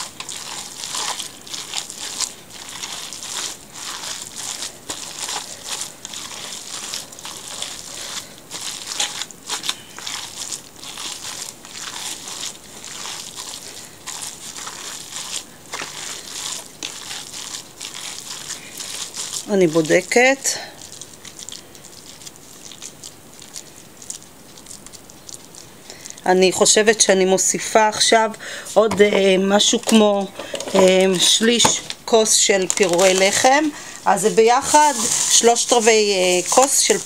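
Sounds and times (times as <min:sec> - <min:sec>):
hands squishing wet mixture: 0:00.0 - 0:37.0.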